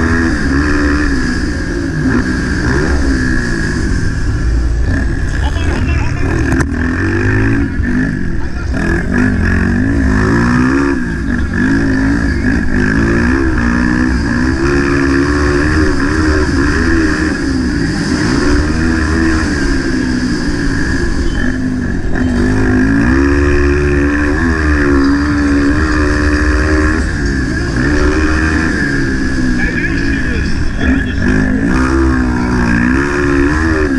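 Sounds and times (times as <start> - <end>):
motocross bike engine revving: 0.0 - 33.9.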